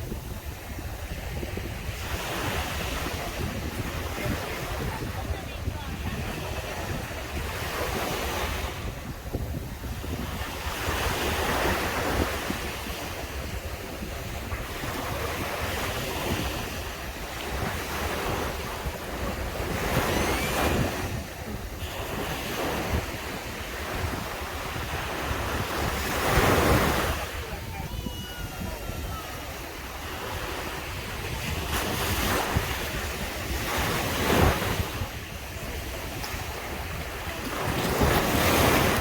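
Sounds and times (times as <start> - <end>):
waves breaking on beach: 0.0 - 39.0
wind rumbling on microphone: 0.0 - 39.0.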